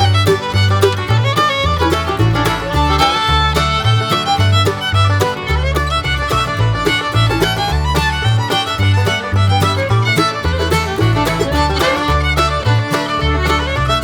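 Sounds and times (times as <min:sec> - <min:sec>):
upbeat fiddle tune: 0:00.0 - 0:14.0
walking bass line: 0:00.0 - 0:14.0.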